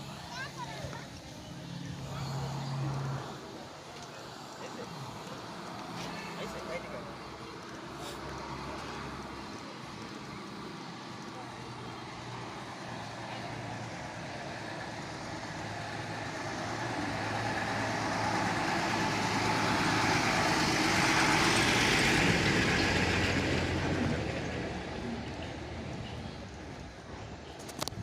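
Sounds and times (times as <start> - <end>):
road noise: 0.0 - 28.0
vehicle engine hum: 0.0 - 28.0.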